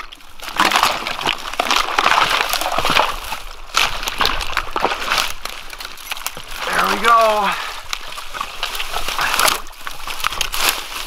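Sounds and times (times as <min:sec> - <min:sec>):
sticks and brush rustling: 0:00.0 - 0:11.0
water sloshing and splashing: 0:00.0 - 0:11.0.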